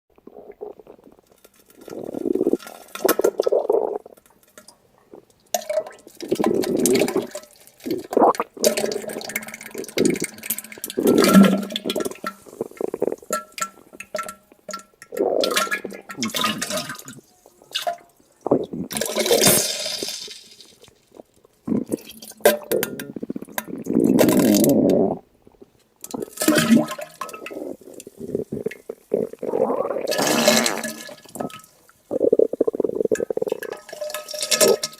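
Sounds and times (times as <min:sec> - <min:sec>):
wet diarrhea bursts: 0:01.8 - 0:04.3, 0:06.1 - 0:25.3, 0:26.1 - 0:34.9.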